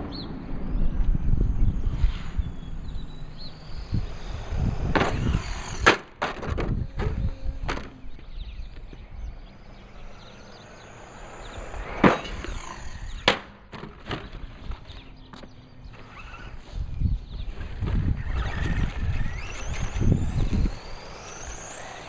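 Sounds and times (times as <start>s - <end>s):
high motor whine: 0.0s - 22.0s.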